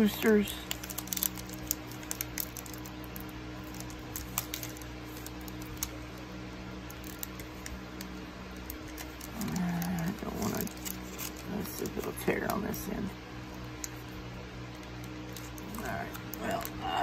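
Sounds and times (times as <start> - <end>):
foil pack crinkling: 0.0 - 17.0
steady low hum: 0.0 - 17.0.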